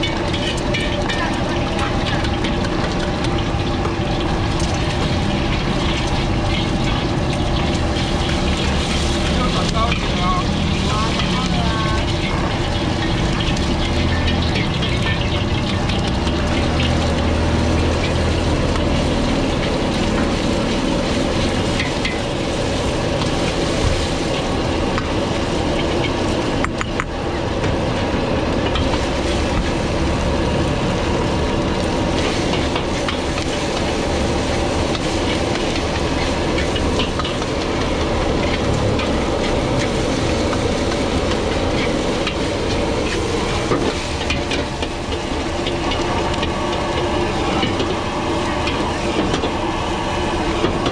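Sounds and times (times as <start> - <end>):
metal ladle scraping wok: 0.0 - 27.3, 28.6 - 50.9
gas burner rushing: 0.0 - 50.9
rice sizzling in a wok: 0.0 - 50.9.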